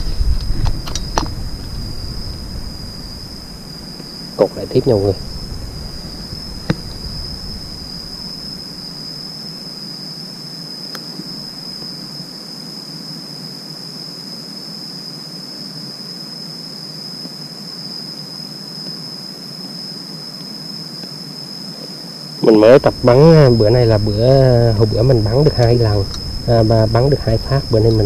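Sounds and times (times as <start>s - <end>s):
insects droning high whine: 0.0s - 28.0s
low background hiss: 0.0s - 28.0s.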